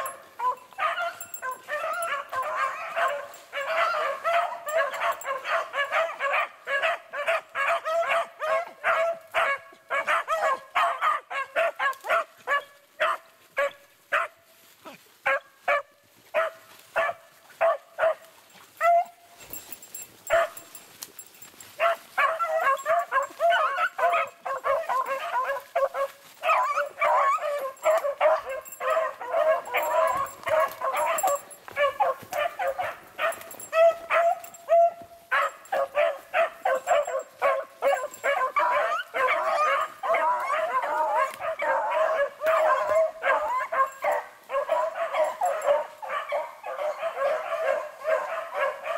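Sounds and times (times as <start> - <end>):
hounds baying: 0.0 - 48.9.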